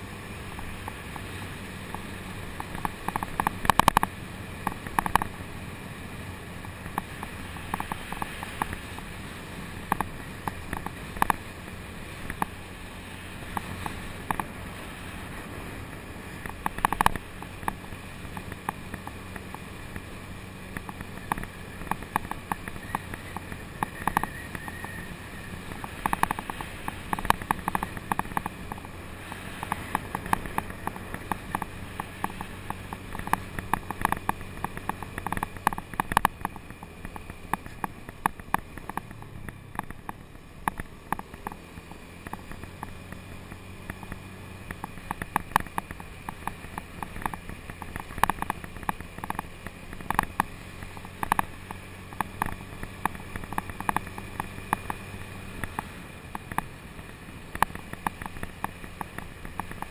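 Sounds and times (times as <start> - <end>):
faint engine hum: 0.0 - 59.9.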